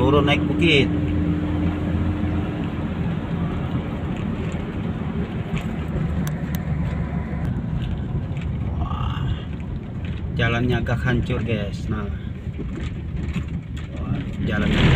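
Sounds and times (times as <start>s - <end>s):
car engine running: 0.0s - 14.9s
tyre and road rumble: 0.0s - 14.9s.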